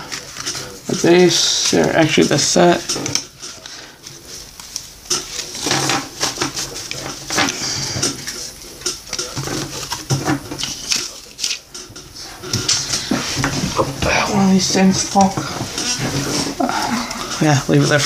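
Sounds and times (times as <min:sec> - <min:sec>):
cards rustling: 0:00.0 - 0:18.0.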